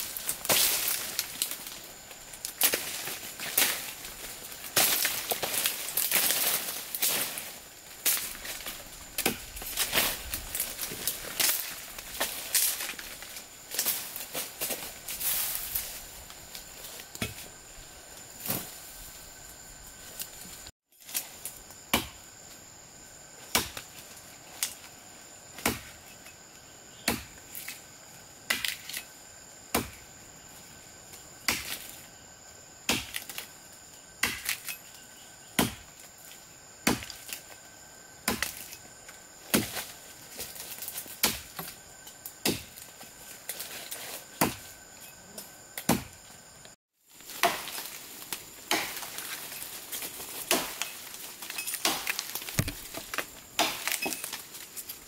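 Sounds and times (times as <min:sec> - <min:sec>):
high buzz of insects: 0:00.0 - 0:55.0.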